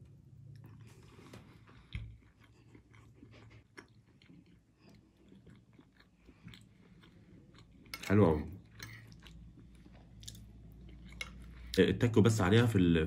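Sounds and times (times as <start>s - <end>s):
faint chewing: 0.4s - 11.8s.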